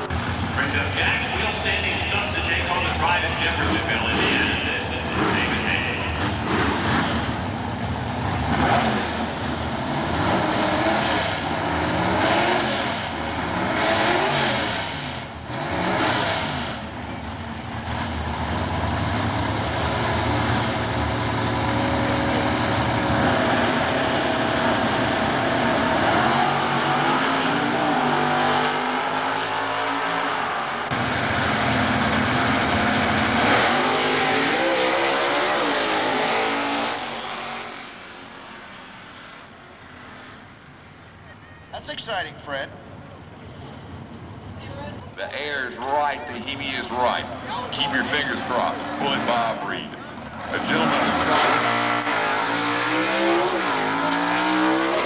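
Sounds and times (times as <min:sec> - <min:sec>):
drag racing car engines: 0:00.0 - 0:55.0.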